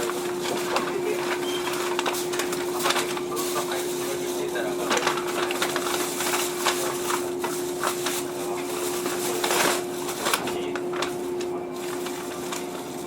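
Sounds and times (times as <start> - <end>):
train electrical hum: 0.0 - 13.0.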